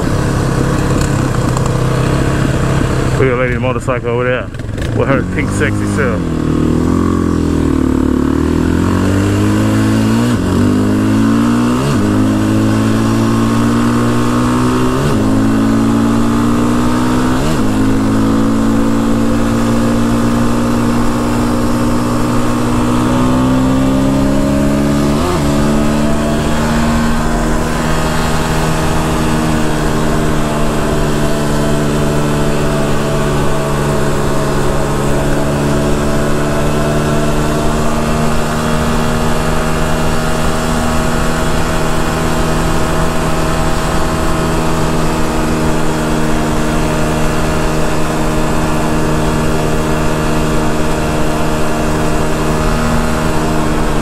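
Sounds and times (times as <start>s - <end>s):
quad engine shifting gears: 0.0s - 54.0s.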